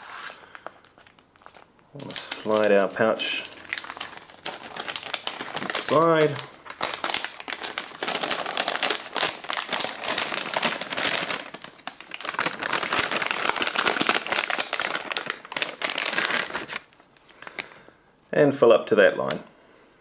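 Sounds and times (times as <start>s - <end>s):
packaging crinkling: 0.0s - 17.8s.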